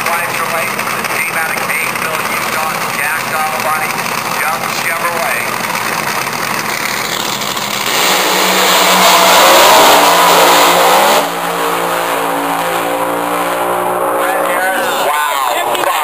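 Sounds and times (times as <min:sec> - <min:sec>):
drag racing cars accelerating: 0:00.0 - 0:16.0.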